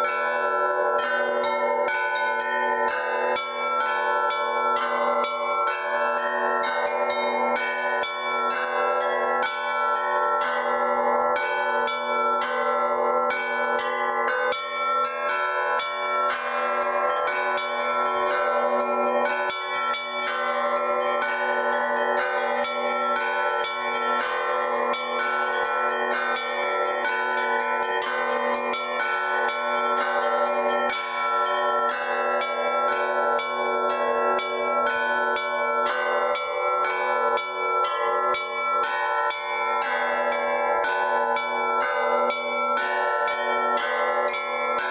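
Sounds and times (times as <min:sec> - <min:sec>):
church bells pealing: 0:00.0 - 0:44.9
long ringing tones of large bells: 0:00.0 - 0:44.9.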